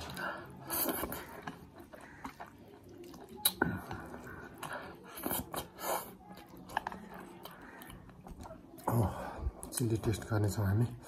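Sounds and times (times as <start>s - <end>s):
chewing noodles: 0.0s - 9.9s.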